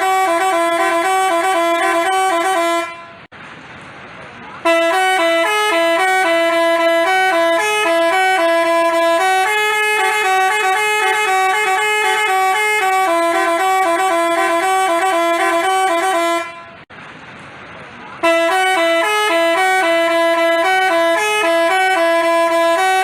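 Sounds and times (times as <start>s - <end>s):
musical air horn playing a tune: 0.0s - 3.3s, 4.6s - 16.8s, 18.2s - 23.0s.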